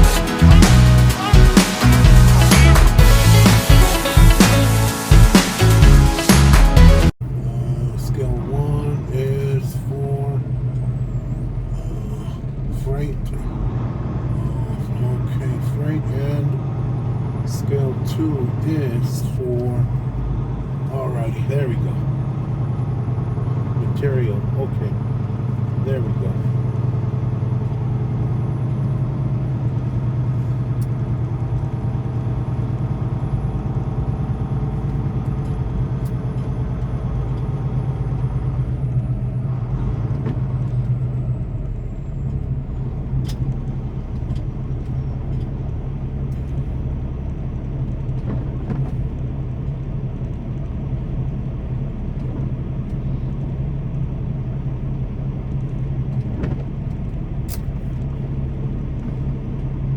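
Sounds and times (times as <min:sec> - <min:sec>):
truck diesel engine humming: 0:00.0 - 0:59.9.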